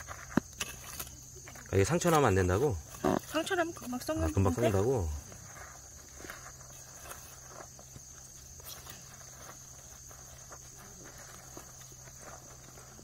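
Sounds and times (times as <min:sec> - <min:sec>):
scraping of dry soil: 0:00.0 - 0:13.0.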